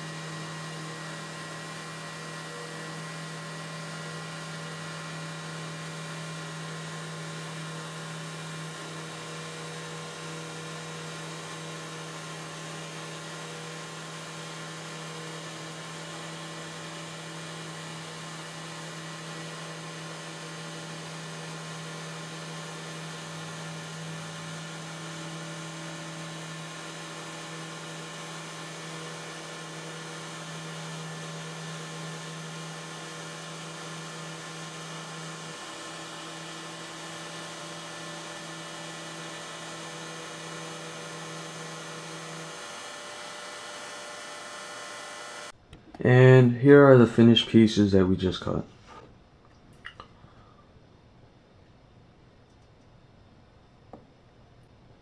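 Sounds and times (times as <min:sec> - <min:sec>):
router spindle hum with high tones: 0:00.0 - 0:45.6.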